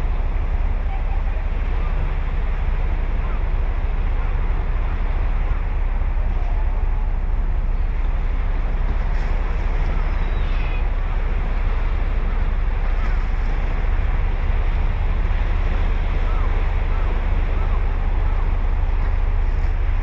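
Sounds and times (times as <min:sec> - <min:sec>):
ocean waves breaking: 0:00.0 - 0:20.0
wind buffeting microphone: 0:00.0 - 0:20.0.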